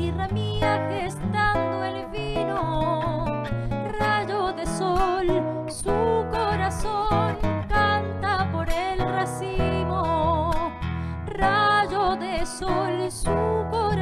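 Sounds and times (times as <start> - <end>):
classical guitar strummed: 0.0 - 14.0
woman singing with vibrato: 0.0 - 14.0.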